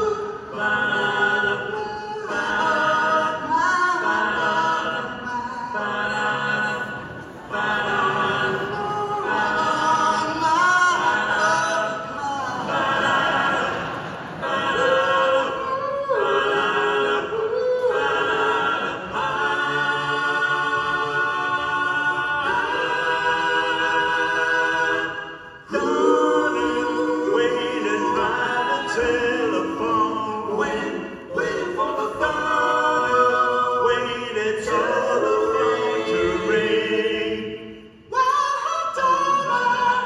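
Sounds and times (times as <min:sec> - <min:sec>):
men singing in harmony: 0:00.0 - 0:40.0.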